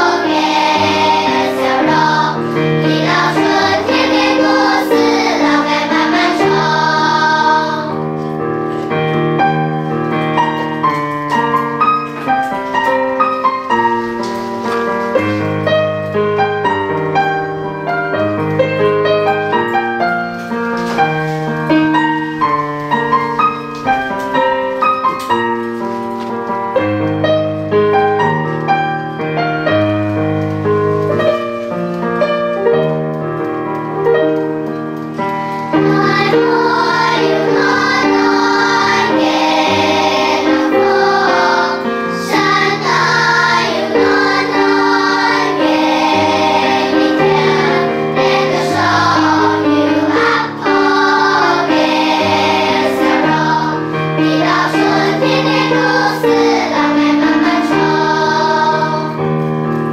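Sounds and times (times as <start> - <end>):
piano playing: 0.0 - 59.9.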